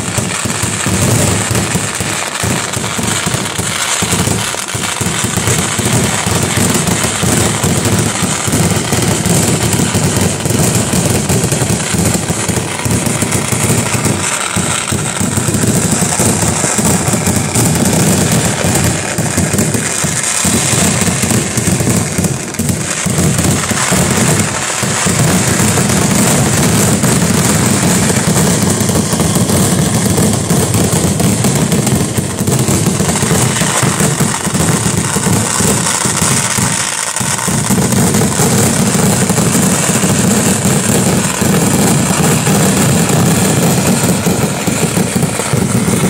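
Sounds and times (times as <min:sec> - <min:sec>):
firecrackers banging and crackling: 0:00.0 - 0:46.0.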